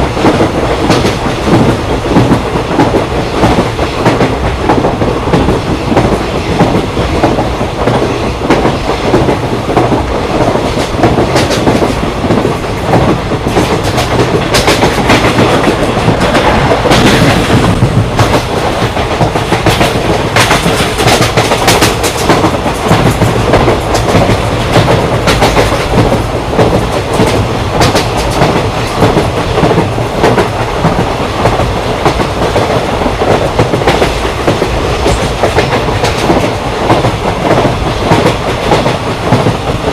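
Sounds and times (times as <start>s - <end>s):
train rumbling at speed: 0.0s - 39.9s.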